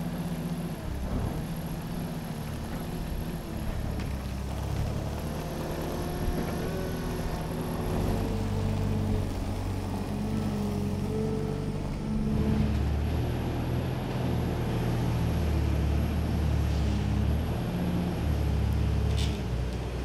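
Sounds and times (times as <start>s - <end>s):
forklift diesel engine running: 0.0s - 19.1s.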